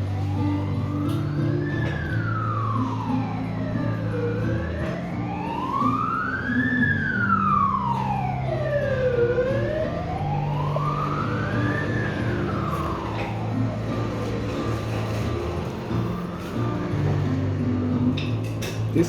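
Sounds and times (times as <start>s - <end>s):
emergency vehicle siren wailing: 0.0s - 18.4s.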